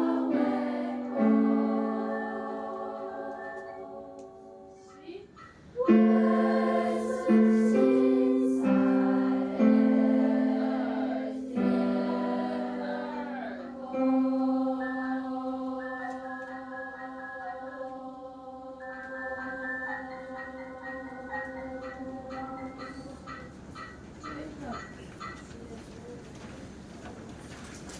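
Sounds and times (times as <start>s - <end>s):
held music chord: 0.0s - 4.9s, 5.8s - 23.6s
choir-like voices holding notes: 0.0s - 24.4s.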